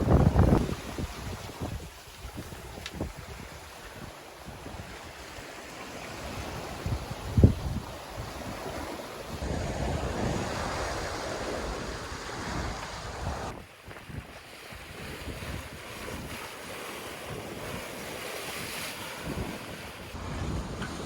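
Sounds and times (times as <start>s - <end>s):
wind buffeting microphone: 0.0s - 5.4s, 6.0s - 21.0s
ocean waves rushing: 0.0s - 21.0s.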